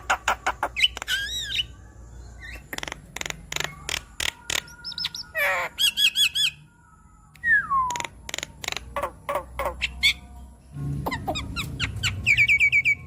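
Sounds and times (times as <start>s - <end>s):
bird chattering song: 0.0s - 6.7s, 7.8s - 10.4s, 11.0s - 13.0s.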